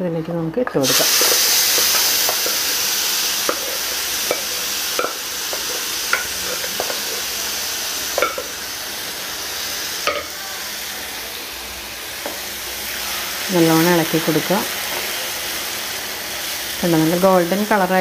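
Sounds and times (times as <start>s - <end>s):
coconut sizzling in a pan: 0.6s - 18.0s.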